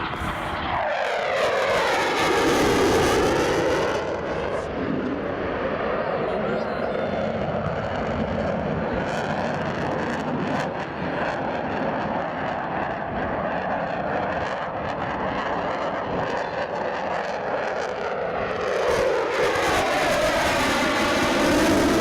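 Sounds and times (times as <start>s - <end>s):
jet roaring overhead: 0.0s - 22.0s.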